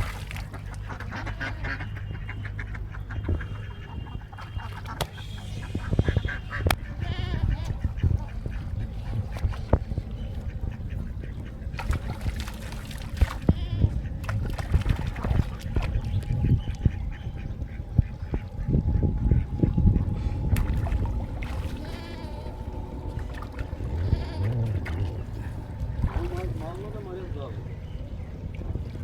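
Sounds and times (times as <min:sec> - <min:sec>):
quacking animal calls: 0:00.5 - 0:27.2
low rumble: 0:05.2 - 0:29.0.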